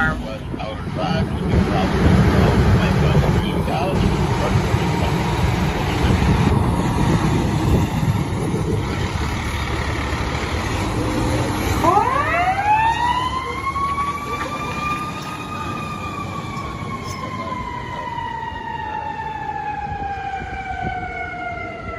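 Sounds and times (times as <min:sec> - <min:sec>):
fire truck rumbling: 0:00.0 - 0:21.9
siren wailing: 0:02.7 - 0:21.9.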